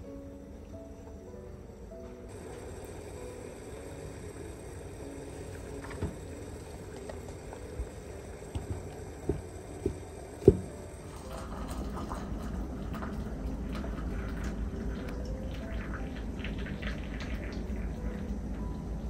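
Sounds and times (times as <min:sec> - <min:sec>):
steady low hiss: 0:00.0 - 0:16.6.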